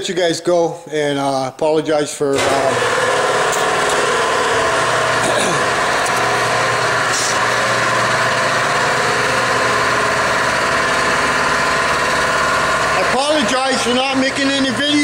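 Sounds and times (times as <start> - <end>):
engine idling: 2.6 - 15.0.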